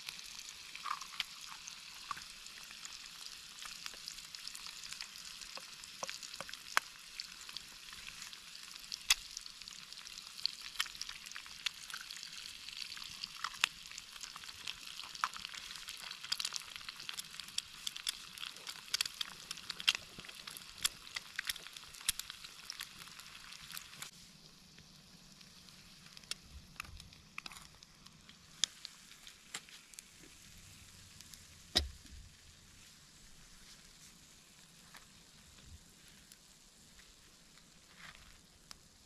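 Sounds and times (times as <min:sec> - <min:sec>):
eggs sizzling in oil: 0:00.0 - 0:39.0.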